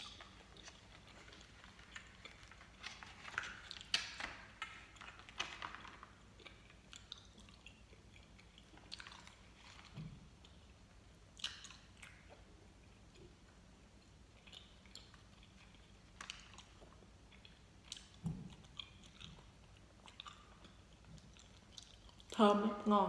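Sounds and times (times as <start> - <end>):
person chewing candy: 0.0 - 22.4.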